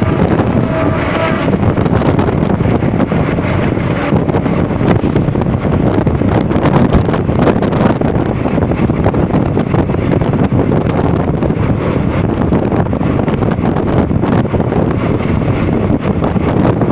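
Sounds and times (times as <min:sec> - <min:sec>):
train coach rumbling on track: 0:00.0 - 0:16.9
wind buffeting microphone: 0:00.0 - 0:16.9.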